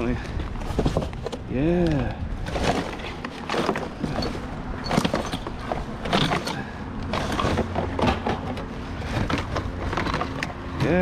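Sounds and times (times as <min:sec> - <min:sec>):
scrap items rummaged by hand: 0:00.0 - 0:11.0.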